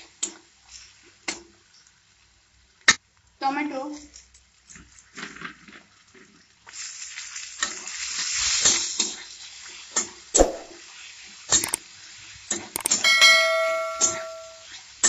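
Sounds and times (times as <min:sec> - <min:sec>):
food frying in hot oil: 0:00.0 - 0:12.8, 0:14.6 - 0:15.0.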